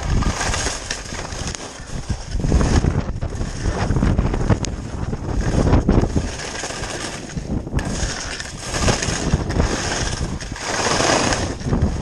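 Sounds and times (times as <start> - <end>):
skis sliding through snow: 0.0 - 12.0
wind buffeting microphone: 0.0 - 12.0.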